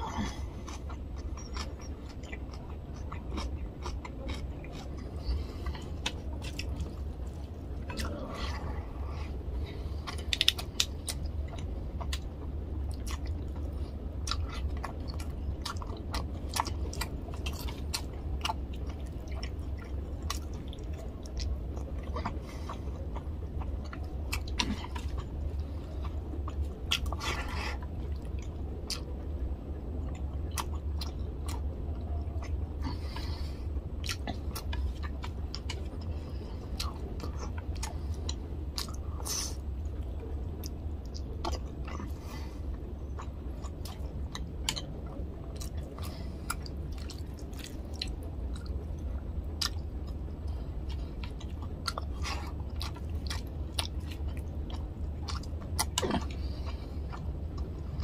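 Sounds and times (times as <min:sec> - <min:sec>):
person chewing: 0:00.0 - 0:29.2, 0:30.0 - 0:58.0
steady low hum: 0:00.0 - 0:58.0.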